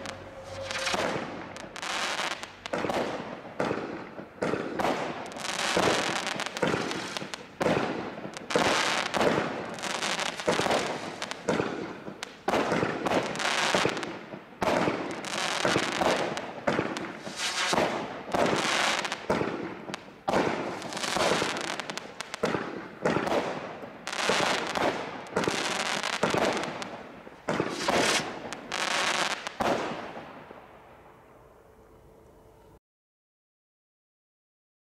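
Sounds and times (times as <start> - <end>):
firework barrage shots and bursts: 0.0 - 30.4.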